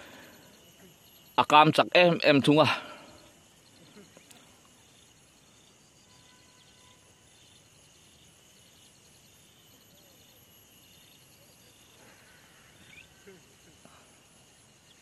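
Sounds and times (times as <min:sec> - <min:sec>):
insects chirping in pulses: 0:00.0 - 0:15.0
quiet outdoor hiss: 0:00.0 - 0:15.0.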